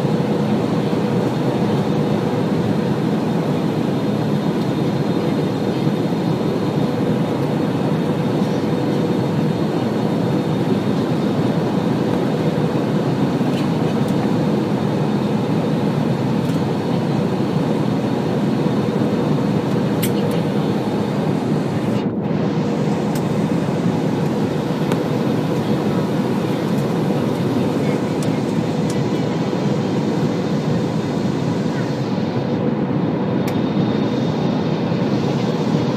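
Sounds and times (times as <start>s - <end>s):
airliner cabin engine drone: 0.0s - 35.9s.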